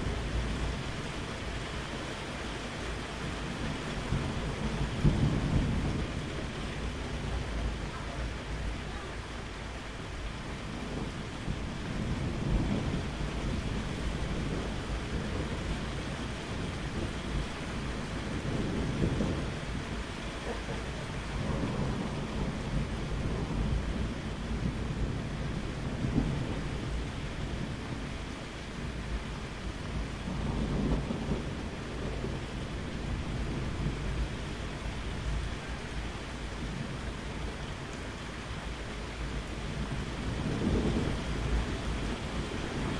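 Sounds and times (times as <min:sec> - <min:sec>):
steady rain: 0:00.0 - 0:42.9
rolling thunder: 0:03.1 - 0:08.8, 0:10.6 - 0:28.2, 0:28.8 - 0:42.9.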